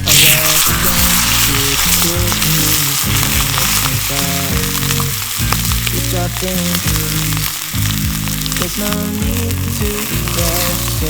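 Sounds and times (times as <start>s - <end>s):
steak sizzling in frying pan: 0.0s - 11.0s.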